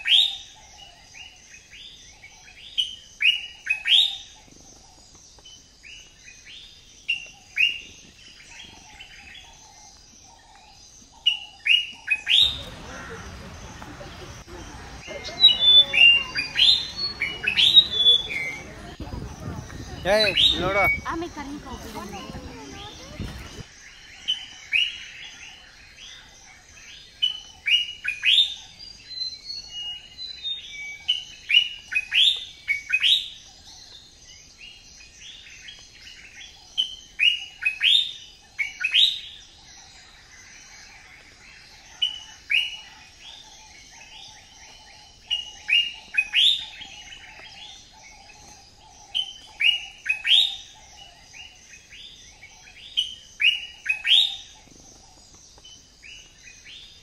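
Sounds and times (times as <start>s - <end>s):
birds chirping: 0.0s - 57.0s
faint steady twittering: 0.0s - 57.0s.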